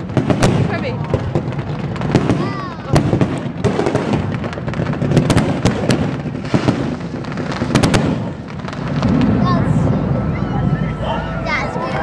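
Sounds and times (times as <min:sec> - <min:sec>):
fireworks bangs and crackles: 0:00.0 - 0:12.0
low rumble of explosions: 0:00.0 - 0:12.0.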